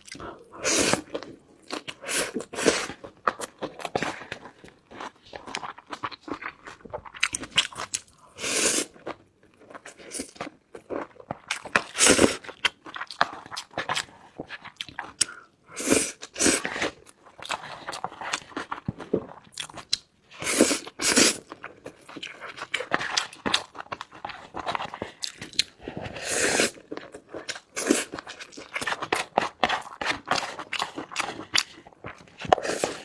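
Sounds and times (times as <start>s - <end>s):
person crunching and chewing: 0.0s - 33.0s.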